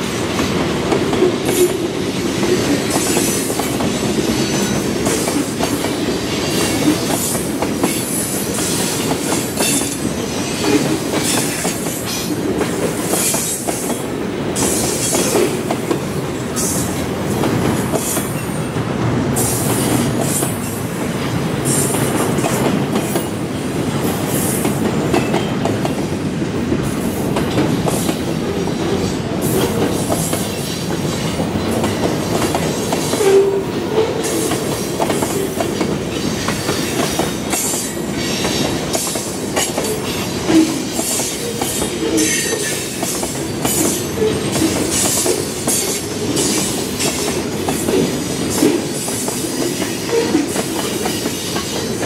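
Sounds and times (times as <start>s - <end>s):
train wheels clacking: 0.0s - 52.0s.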